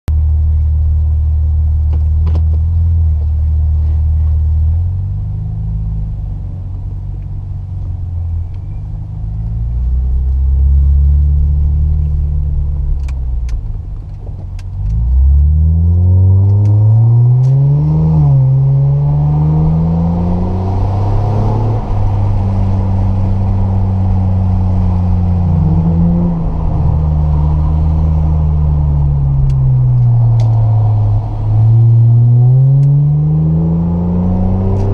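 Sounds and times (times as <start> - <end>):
car exhaust accelerating: 0.1 - 34.9.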